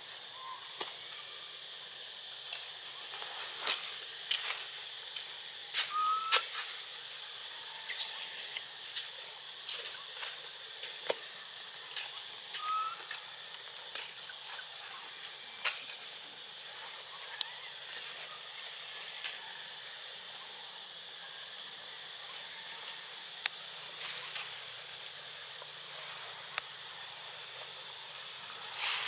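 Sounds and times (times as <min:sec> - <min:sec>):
steady high hiss: 0:00.0 - 0:29.0.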